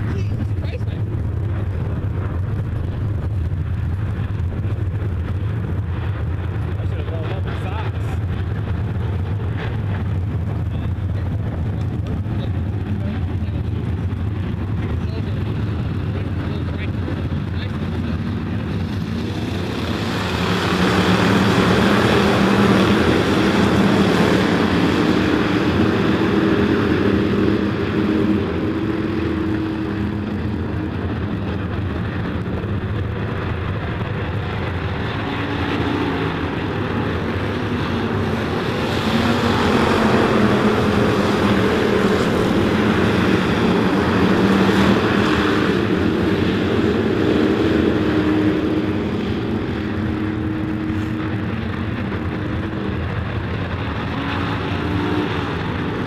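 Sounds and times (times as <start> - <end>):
race cars racing by: 6.5 - 56.0.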